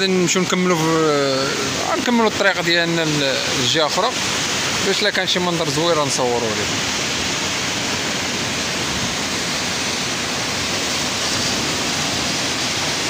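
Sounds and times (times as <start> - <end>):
sea surf on rocks: 0.0 - 13.0.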